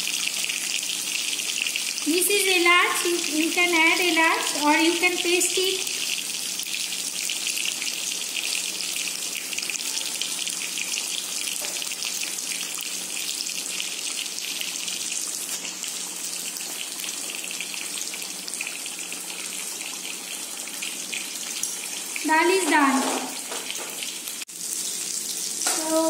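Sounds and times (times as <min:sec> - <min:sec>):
stew bubbling and sizzling: 0:00.0 - 0:26.0.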